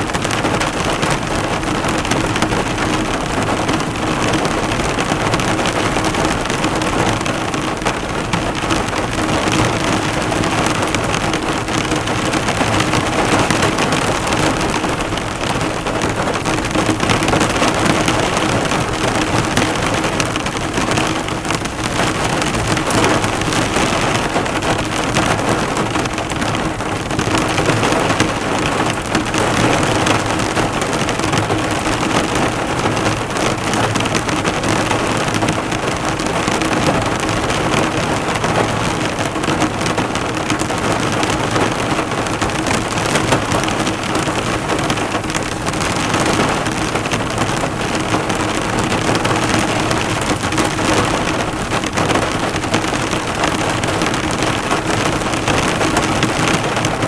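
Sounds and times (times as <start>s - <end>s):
heavy rain on a car: 0.0s - 57.0s.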